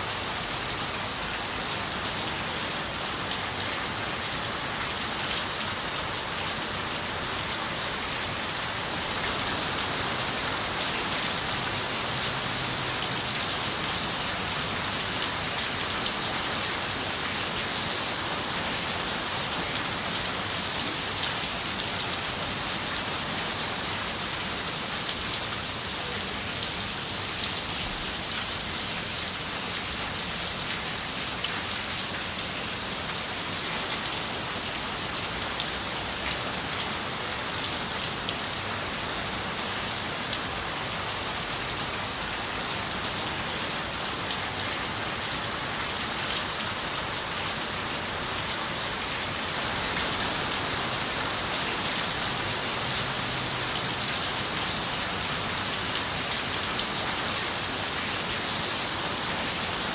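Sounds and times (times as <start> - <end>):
rain on a window: 8.8 - 59.9.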